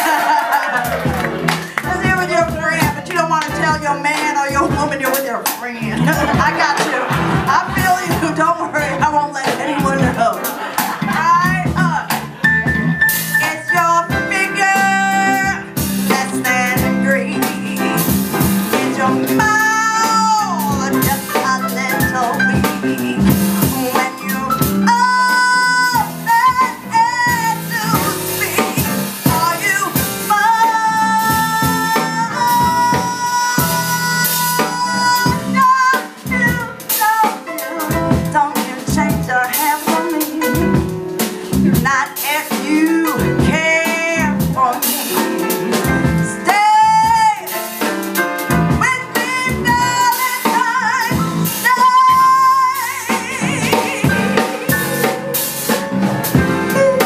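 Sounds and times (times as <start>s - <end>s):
piano: 0.0s - 57.0s
electric bass: 0.8s - 5.0s, 5.8s - 36.8s, 40.5s - 42.0s, 43.1s - 44.7s, 45.5s - 47.4s, 50.8s - 57.0s
woman singing into microphone: 1.7s - 10.5s, 11.1s - 12.2s, 13.4s - 40.9s, 41.7s - 47.6s, 48.7s - 57.0s.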